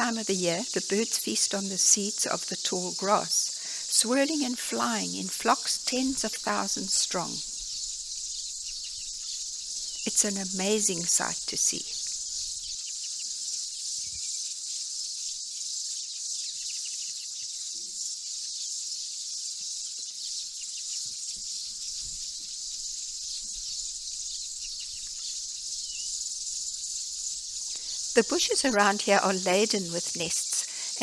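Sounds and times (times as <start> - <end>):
birds chattering in a colony: 0.0 - 31.0.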